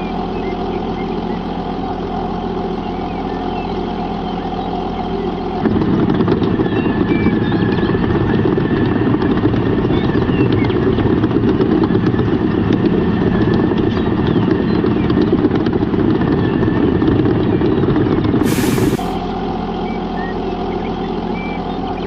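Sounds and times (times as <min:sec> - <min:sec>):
vehicle motor rumbling: 0:00.0 - 0:22.0.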